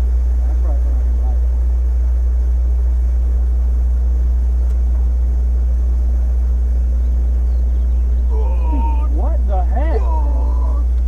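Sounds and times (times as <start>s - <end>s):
boat motor droning: 0.0s - 11.0s
faint steady hum: 0.0s - 11.0s.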